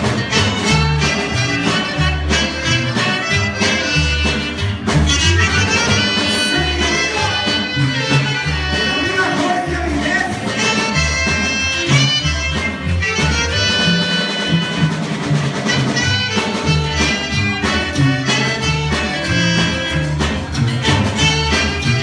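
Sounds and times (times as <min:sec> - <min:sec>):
pulsing bass line: 0:00.0 - 0:22.0
reedy lead melody: 0:00.0 - 0:22.0.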